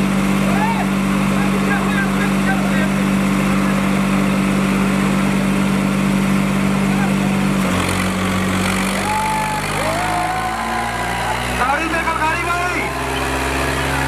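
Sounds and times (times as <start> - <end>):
tractor diesel engines running hard: 0.0 - 14.0.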